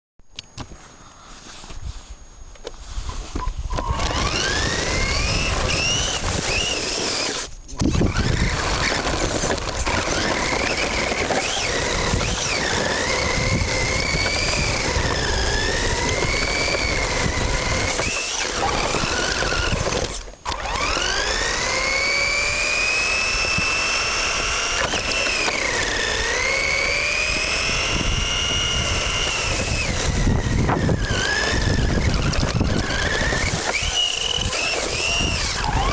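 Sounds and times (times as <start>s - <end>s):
electric motor whining: 2.8s - 35.9s.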